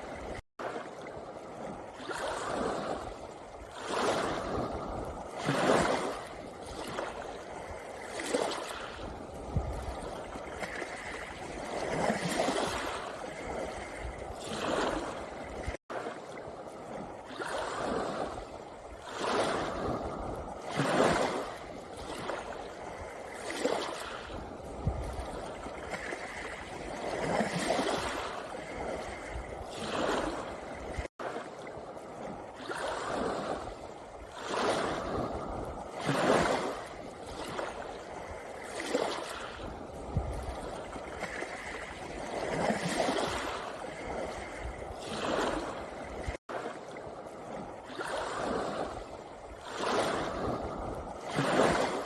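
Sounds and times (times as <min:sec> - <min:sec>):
waves washing over pebbles: 0:00.0 - 0:52.0.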